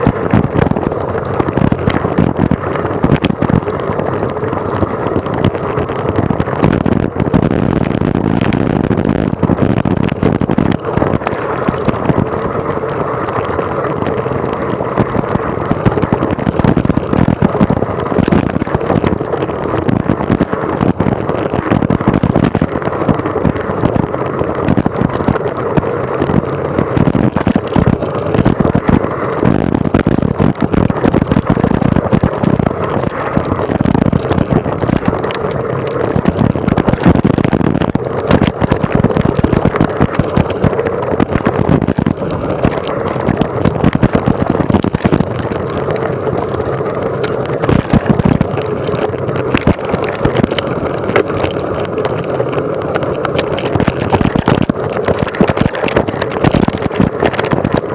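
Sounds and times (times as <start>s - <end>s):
bike rattling and knocking: 0.0s - 57.9s
bike rumbling on rough trail: 0.0s - 57.9s
wind buffeting microphone: 0.0s - 57.9s.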